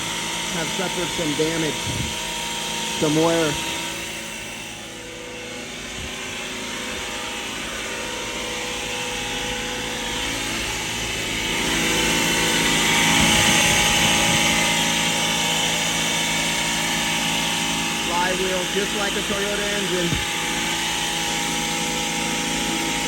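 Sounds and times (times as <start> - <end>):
heat pump compressor running loudly: 0.0 - 23.0.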